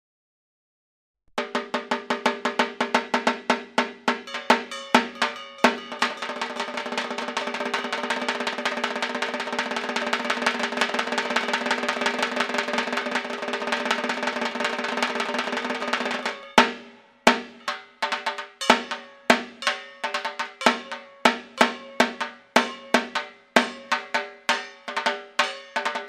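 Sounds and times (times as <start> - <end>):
drum strokes and rolls: 1.4 - 26.0.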